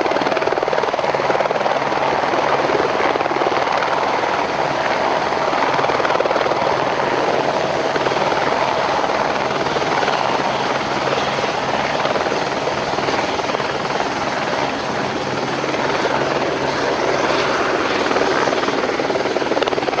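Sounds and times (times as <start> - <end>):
helicopter whine and rotor chop: 0.0 - 20.0.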